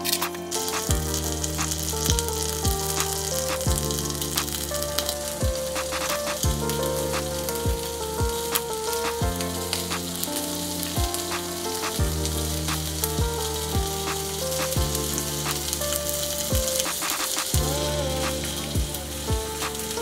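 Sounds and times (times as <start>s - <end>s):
background music with steady beat: 0.0s - 20.0s.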